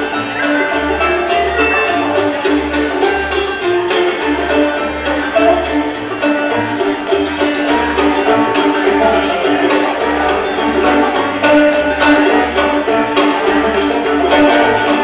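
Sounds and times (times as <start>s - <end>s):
bowed fiddle melody: 0.0s - 15.0s
plucked strings: 0.0s - 15.0s
pulsing bass line: 0.0s - 15.0s.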